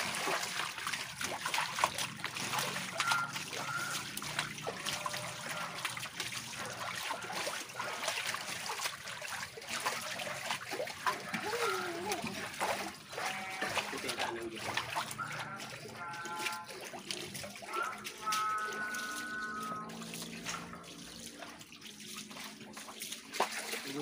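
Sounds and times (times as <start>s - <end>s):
fish thrashing in water: 0.0s - 24.0s
muddy water splashing: 0.0s - 24.0s.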